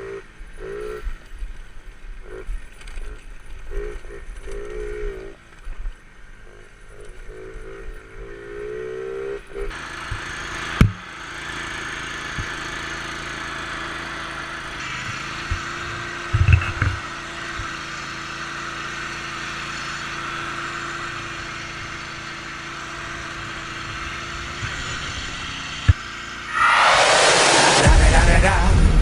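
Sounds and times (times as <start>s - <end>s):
small engine running: 0.0s - 26.8s.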